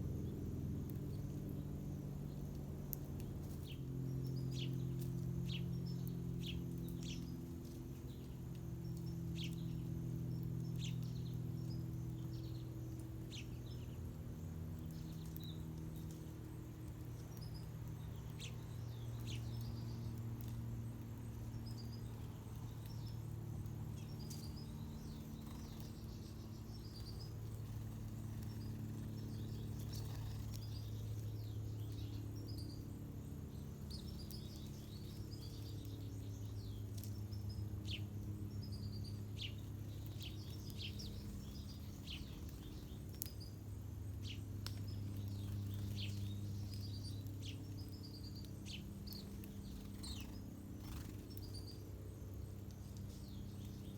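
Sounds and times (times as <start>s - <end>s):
low mechanical hum: 0.0s - 53.9s
small birds chirping: 0.0s - 53.9s.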